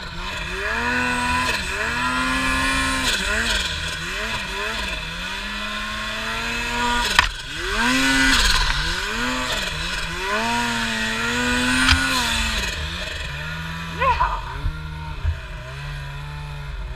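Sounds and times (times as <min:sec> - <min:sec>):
snowmobile engine revving: 0:00.0 - 0:16.9.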